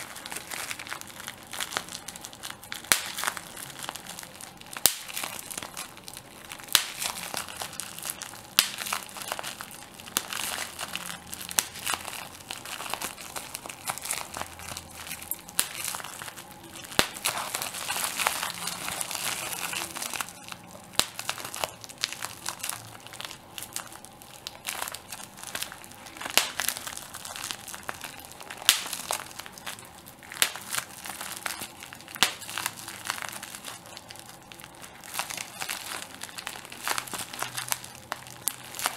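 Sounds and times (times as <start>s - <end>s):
bubble wrap popping: 0.0s - 38.9s
plastic sheet crinkling: 0.0s - 38.9s.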